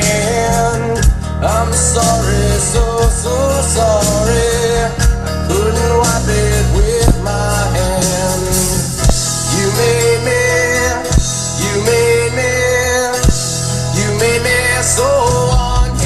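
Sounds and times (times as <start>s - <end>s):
rock song on car speakers: 0.0s - 16.0s.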